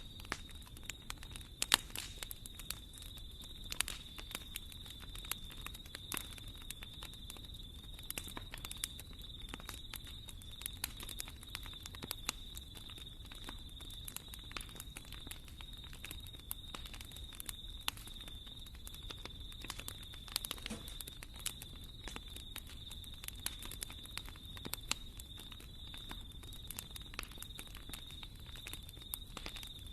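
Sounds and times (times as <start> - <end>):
low rumble of flames: 0.0 - 29.9
wood fire crackling: 0.0 - 29.9.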